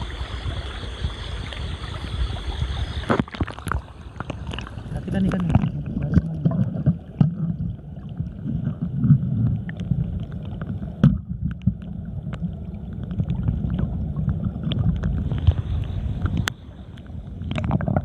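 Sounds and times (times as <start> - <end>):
underwater river rumble and gurgle: 0.0 - 18.0.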